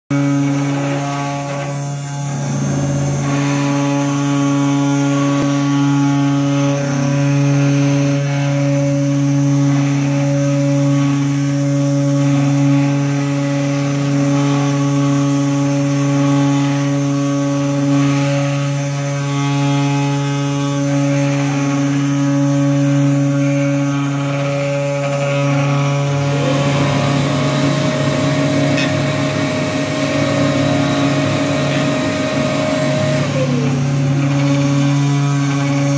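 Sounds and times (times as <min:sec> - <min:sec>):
cutter rasping in wood: 0:00.1 - 0:35.9
spindle motor humming: 0:00.1 - 0:35.9.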